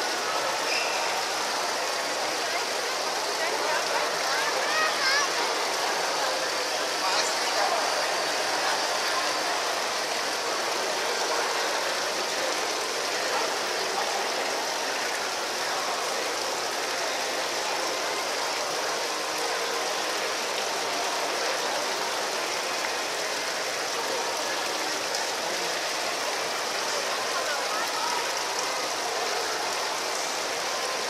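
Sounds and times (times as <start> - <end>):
fountain water splashing into pool: 0.0 - 31.0.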